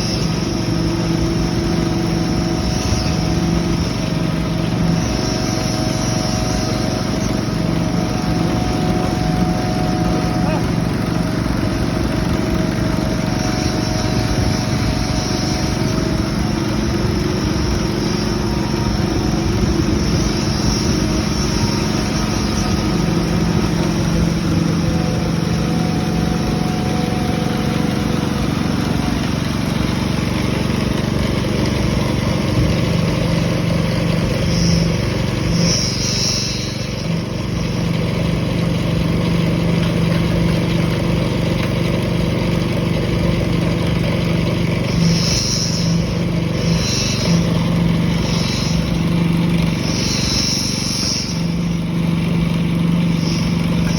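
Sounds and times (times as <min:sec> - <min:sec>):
high-pitched squeaks: 0:00.0 - 0:39.8, 0:43.9 - 0:53.9
diesel engine running under load: 0:00.0 - 0:53.9.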